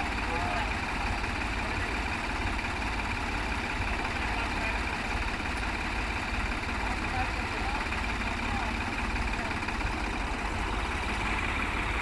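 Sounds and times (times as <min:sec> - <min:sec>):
tractor diesel engine rumbling: 0:00.0 - 0:12.0.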